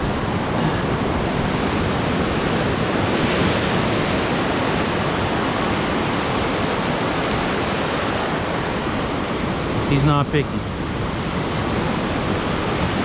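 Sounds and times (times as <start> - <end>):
wind on microphone: 0.0 - 10.0, 10.6 - 13.0
surf breaking on beach: 0.0 - 13.0.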